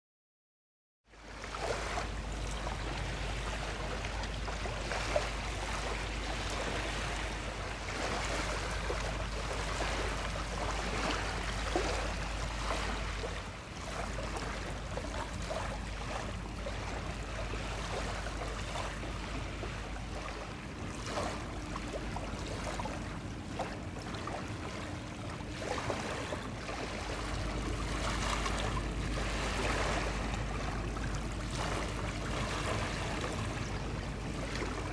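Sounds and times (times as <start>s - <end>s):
faint hum: 1.1s - 34.9s
waves lapping against rocks: 1.3s - 34.9s.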